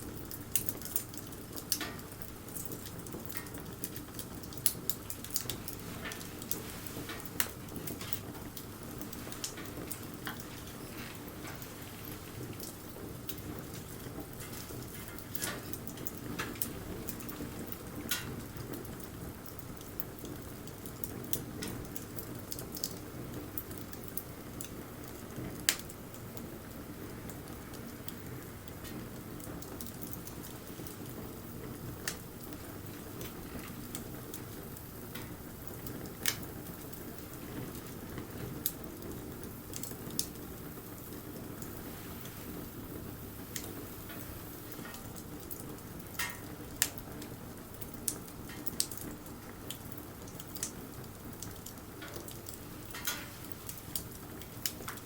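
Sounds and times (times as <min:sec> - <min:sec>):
burning wood crackling and popping: 0:00.0 - 0:55.0
fire flames rushing: 0:00.1 - 0:55.0.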